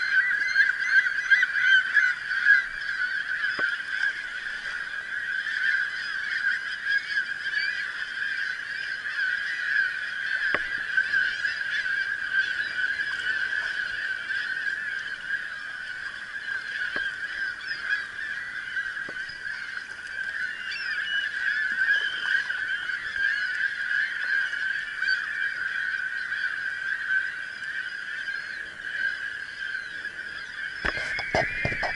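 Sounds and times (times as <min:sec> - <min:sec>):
seagulls and terns calling: 0:00.0 - 0:31.9.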